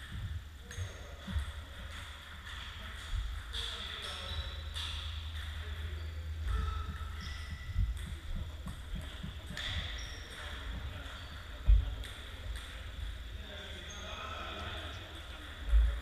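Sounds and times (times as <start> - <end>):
ping-pong balls clicking: 0.0 - 13.2.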